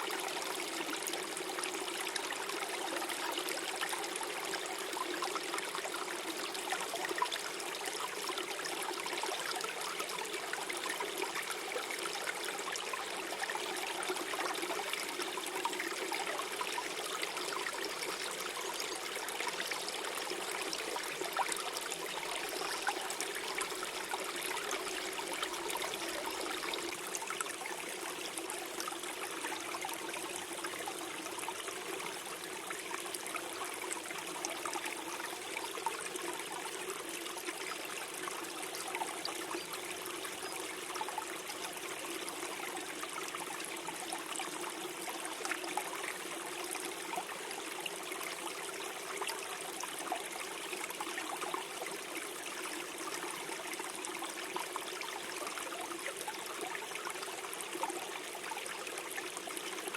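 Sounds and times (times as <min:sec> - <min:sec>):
stream gurgling over stones: 0:00.0 - 0:59.9.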